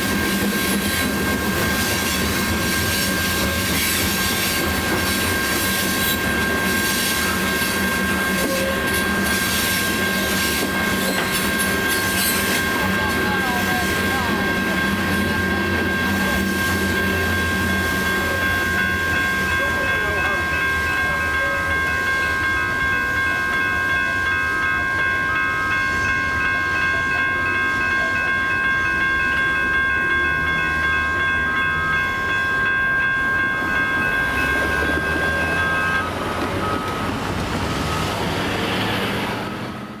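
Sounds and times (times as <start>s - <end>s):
crossing bells ringing: 0.0s - 40.0s
freight train rumbling: 0.0s - 40.0s.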